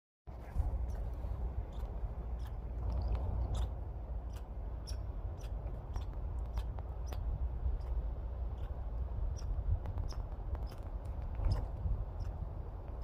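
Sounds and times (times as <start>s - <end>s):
steady low rumble: 0.3s - 13.0s
squirrel hiccuping clicks: 1.7s - 13.0s.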